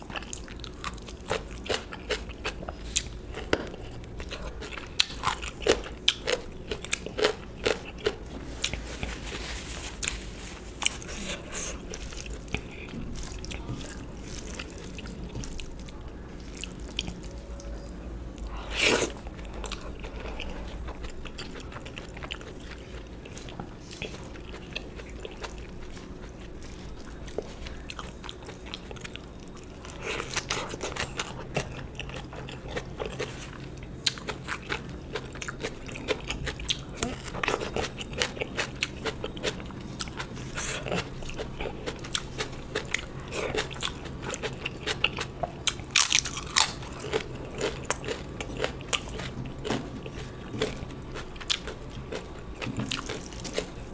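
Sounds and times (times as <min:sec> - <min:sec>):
person chewing and crunching food: 0:00.0 - 0:53.9.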